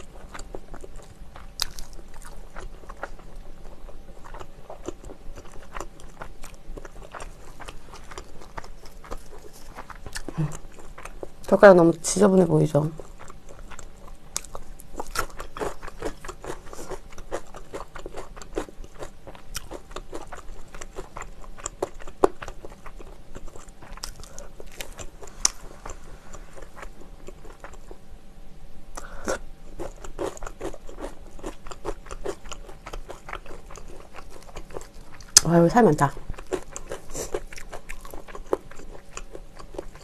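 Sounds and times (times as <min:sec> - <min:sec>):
chewing crunchy fried chicken: 0:00.0 - 0:28.1, 0:28.9 - 0:40.0.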